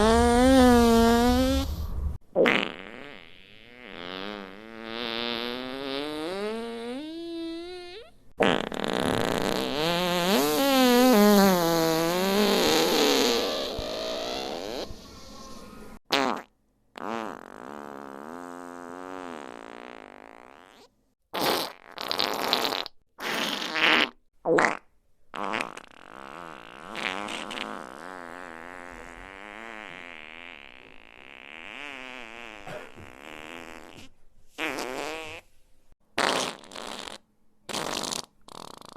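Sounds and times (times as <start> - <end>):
fart sound effects: 0.0 - 15.0, 16.0 - 35.4, 36.2 - 38.9.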